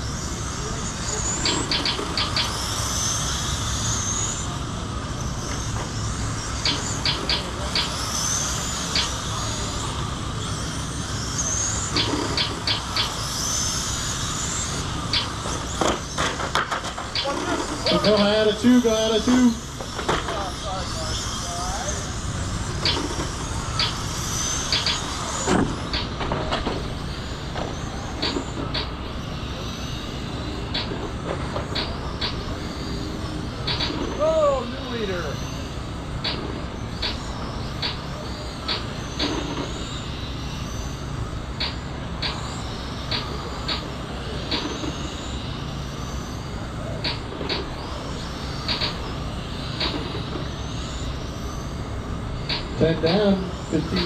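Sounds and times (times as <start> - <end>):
rc car motors whining: 0.0 - 54.0.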